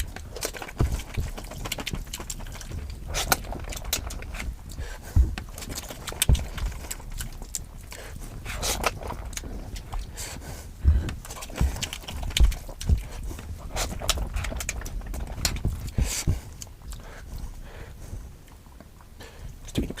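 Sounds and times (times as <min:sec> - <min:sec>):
wet chewing with mouth clicks: 0:00.0 - 0:20.0.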